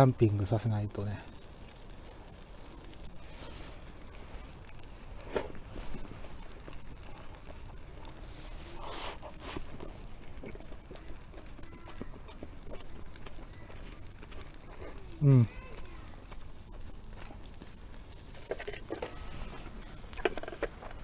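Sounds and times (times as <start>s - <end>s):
campfire crackling: 0.0s - 21.0s
low steady hiss: 0.0s - 21.0s
rustling: 1.4s - 21.0s.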